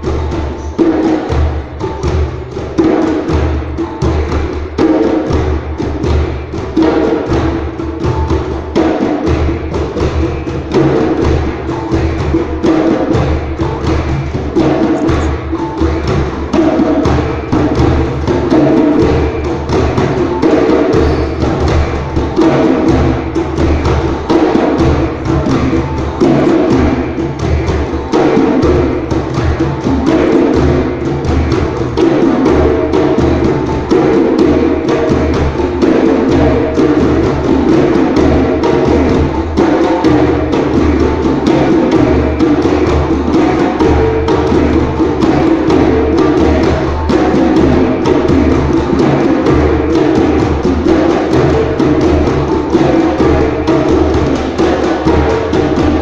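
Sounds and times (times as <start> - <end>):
hand drums playing: 0.0 - 56.0.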